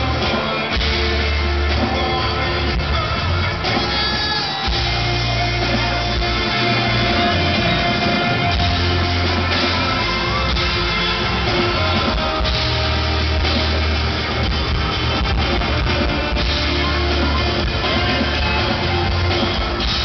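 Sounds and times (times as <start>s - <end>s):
acoustic guitar: 0.0s - 20.0s
bass guitar: 0.0s - 20.0s
drum kit: 0.0s - 20.0s.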